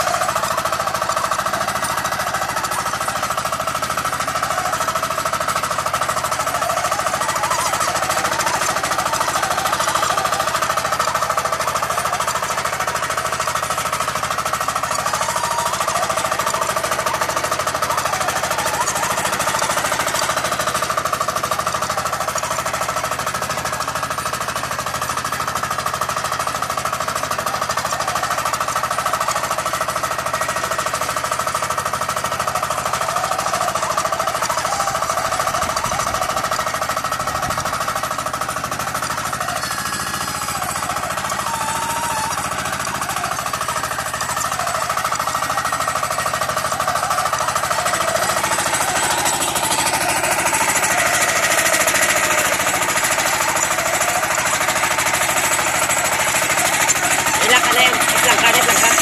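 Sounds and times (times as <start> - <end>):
tiller engine chugging: 0.0 - 59.0.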